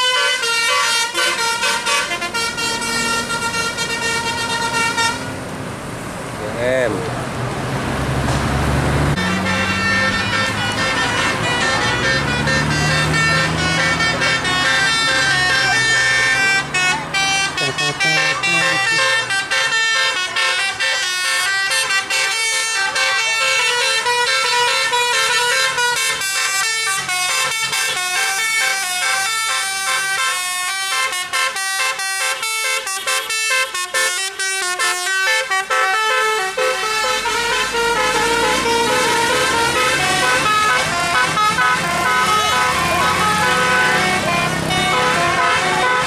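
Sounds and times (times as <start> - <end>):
multi-tone bus air horn melody: 0.0 - 5.4, 9.1 - 46.0.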